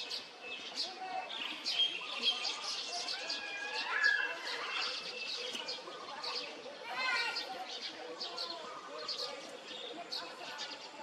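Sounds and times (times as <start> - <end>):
birds chirping chatter: 0.0 - 11.0.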